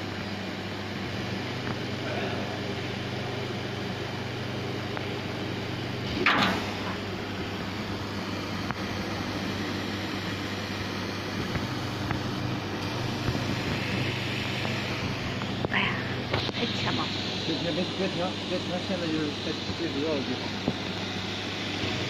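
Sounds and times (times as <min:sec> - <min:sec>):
laser cutting machine humming: 0:00.0 - 0:22.0.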